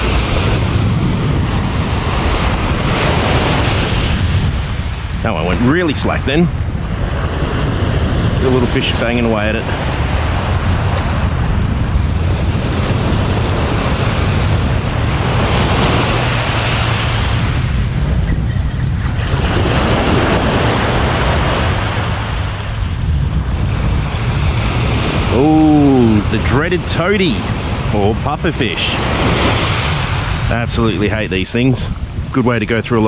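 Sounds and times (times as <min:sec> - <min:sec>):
small waves breaking on beach: 0:00.0 - 0:33.0
wind buffeting microphone: 0:00.0 - 0:33.0.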